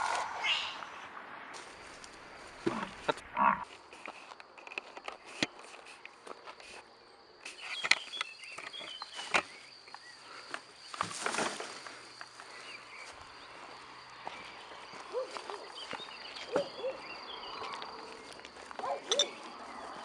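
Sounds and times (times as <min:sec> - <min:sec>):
footsteps on dirt path: 0:01.5 - 0:06.9, 0:07.5 - 0:20.0.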